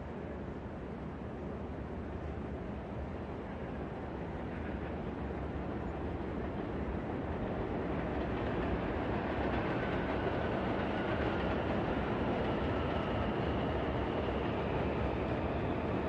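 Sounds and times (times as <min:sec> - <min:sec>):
low rumble of city noise: 0:00.0 - 0:16.0.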